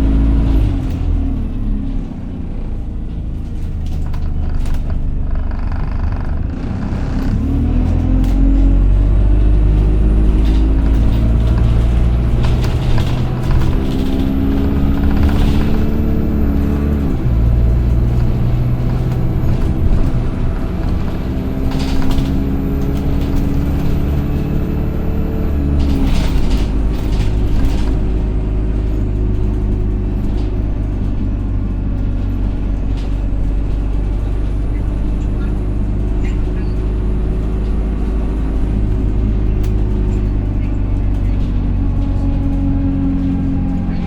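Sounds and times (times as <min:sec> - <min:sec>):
bus body rattles: 0:00.0 - 0:44.0
bus engine accelerating: 0:00.0 - 0:44.0.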